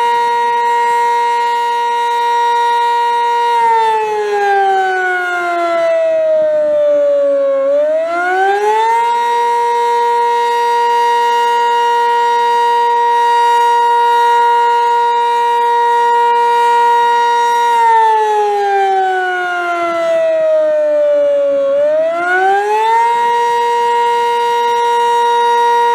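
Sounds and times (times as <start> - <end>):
civil defense siren wailing: 0.0 - 25.9.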